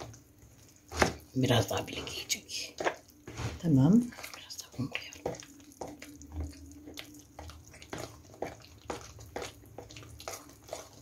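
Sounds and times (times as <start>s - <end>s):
fork beating batter in bowl: 0.0s - 11.0s.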